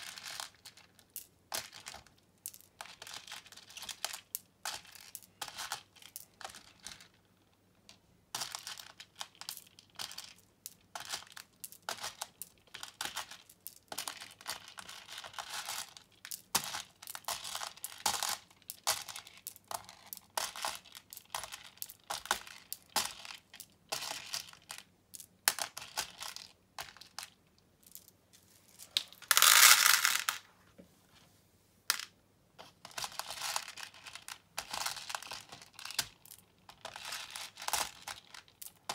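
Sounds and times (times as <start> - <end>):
plastic beads rattling: 0.0 - 7.5, 8.3 - 30.5, 32.8 - 38.9.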